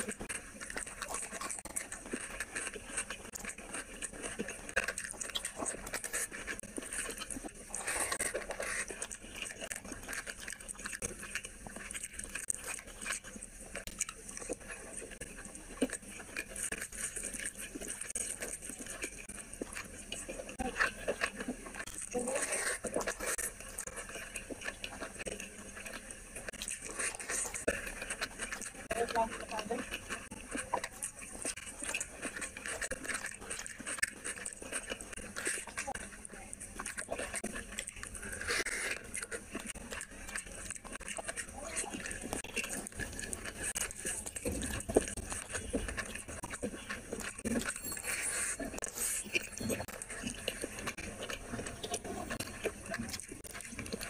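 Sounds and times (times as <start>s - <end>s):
wet chewing and mouth sounds: 0.0s - 54.0s.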